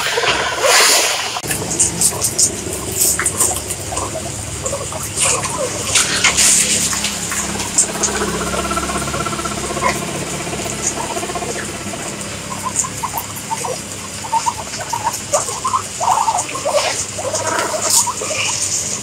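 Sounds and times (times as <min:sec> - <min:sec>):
guinea pig buzzy call: 0:01.4 - 0:18.8.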